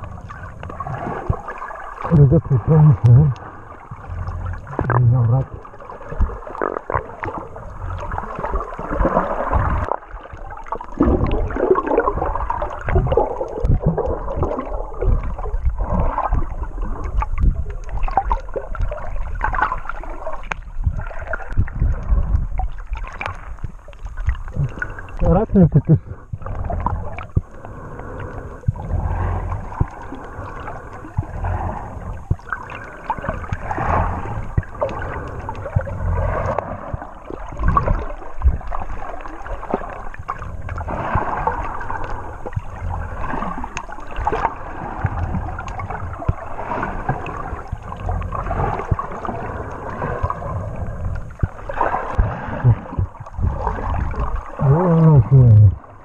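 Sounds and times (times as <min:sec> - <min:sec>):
muffled underwater water sloshing: 0:00.0 - 0:56.0.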